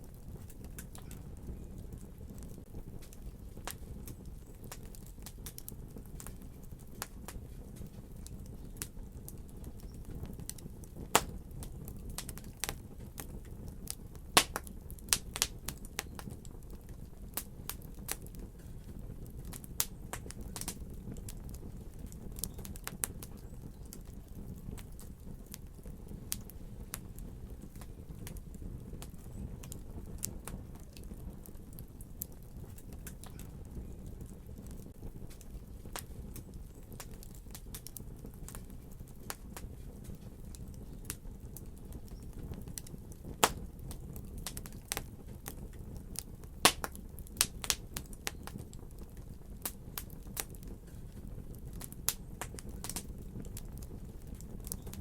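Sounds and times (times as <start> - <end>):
fire pops and snaps: 0.0 - 55.0
low rumble of burning: 0.0 - 55.0
wood fire crackling: 0.0 - 55.0.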